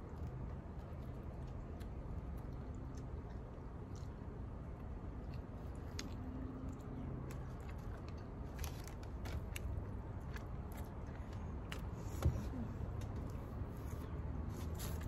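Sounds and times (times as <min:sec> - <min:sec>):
chewing with crunches: 0:00.0 - 0:15.0.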